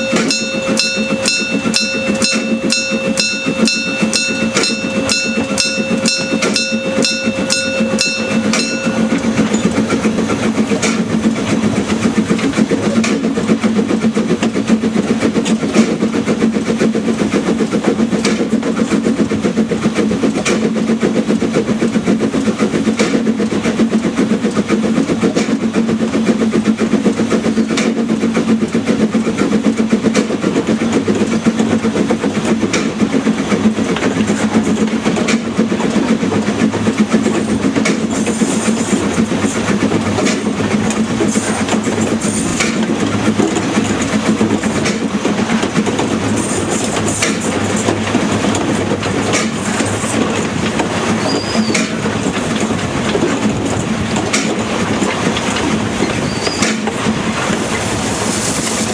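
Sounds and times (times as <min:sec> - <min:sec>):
steam locomotive exhaust beats: 0:00.0 - 0:58.9
wheels clattering on track: 0:00.0 - 0:58.9.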